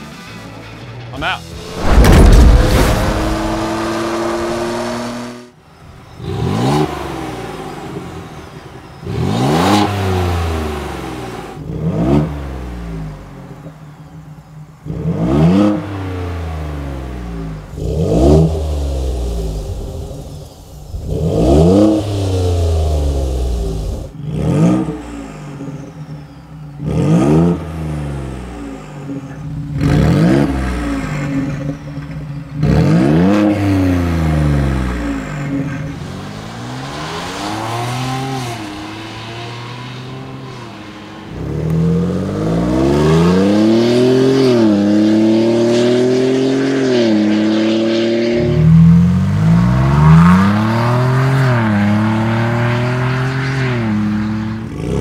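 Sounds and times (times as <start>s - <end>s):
car engine revving: 1.5s - 8.3s, 14.9s - 55.0s.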